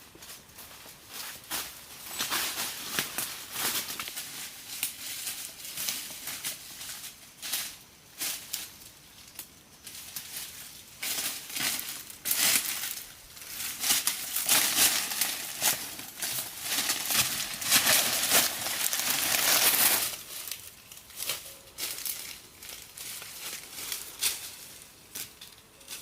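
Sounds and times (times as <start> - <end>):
dry leaves rustling and crackling: 0.0 - 26.0.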